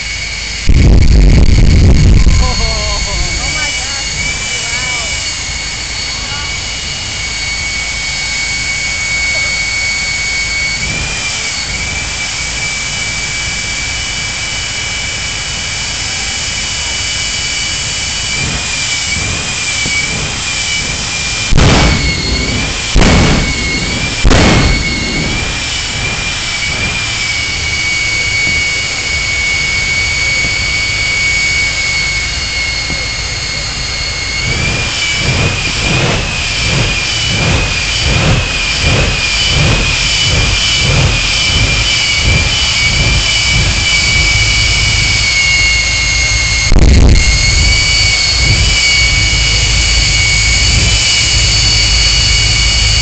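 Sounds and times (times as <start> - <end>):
jet engine whine: 0.0 - 53.0
loud blasts: 0.0 - 53.0.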